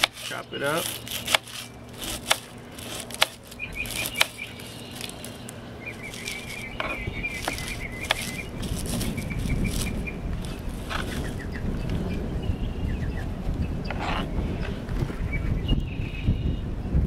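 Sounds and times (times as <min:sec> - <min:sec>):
bird chirping: 0:00.0 - 0:16.7.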